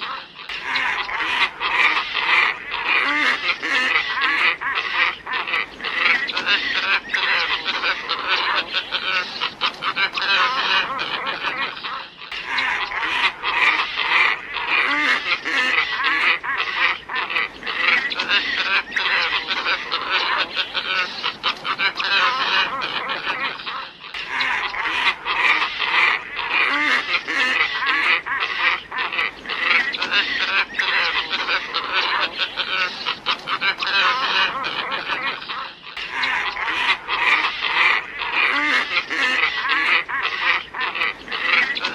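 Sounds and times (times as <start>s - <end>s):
flock of ibises calling: 0.0s - 41.9s.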